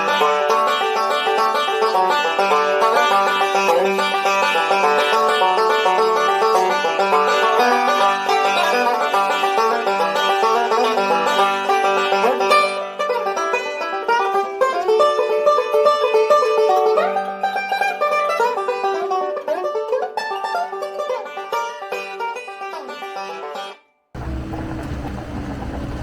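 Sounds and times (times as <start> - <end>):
plucked string tune: 0.0 - 26.0.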